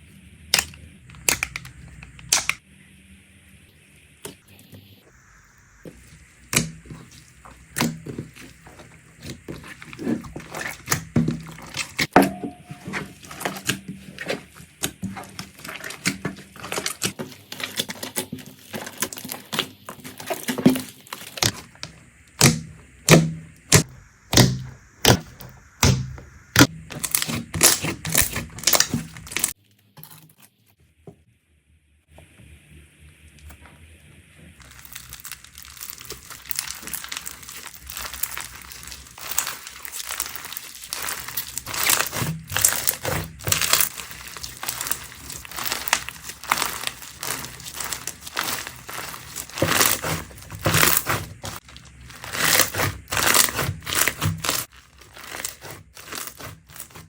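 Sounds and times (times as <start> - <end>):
slime popping and crackling: 6.4 - 30.2, 34.6 - 57.0.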